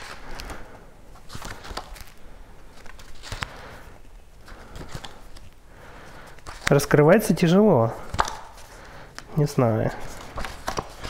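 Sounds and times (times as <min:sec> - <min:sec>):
book pages rustling: 0:00.0 - 0:11.0.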